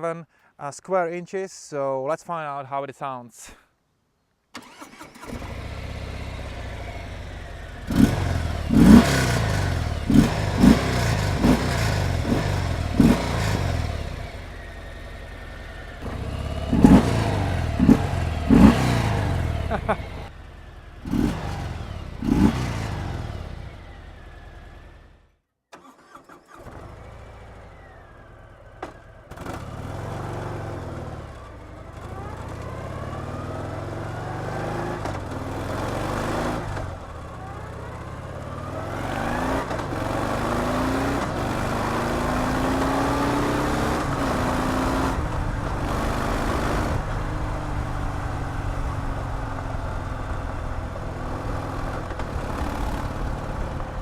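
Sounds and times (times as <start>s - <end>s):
motorcycle engine revving: 4.6s - 25.3s, 26.4s - 54.0s.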